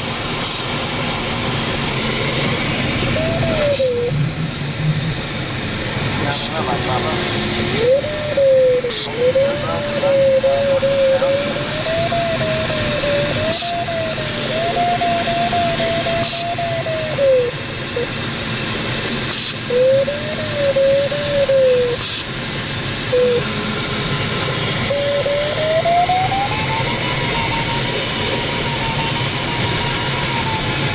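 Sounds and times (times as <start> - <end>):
variometer tone wavering in pitch: 2.2 - 5.0, 6.1 - 18.2, 19.3 - 22.3, 23.0 - 30.8.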